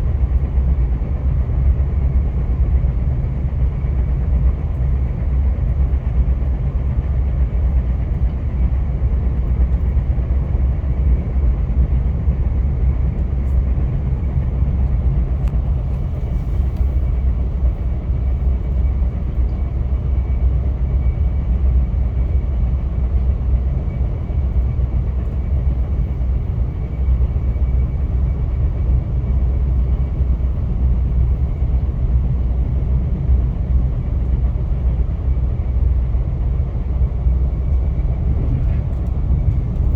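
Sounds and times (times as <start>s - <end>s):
passenger train rumbling on track: 0.0s - 39.9s.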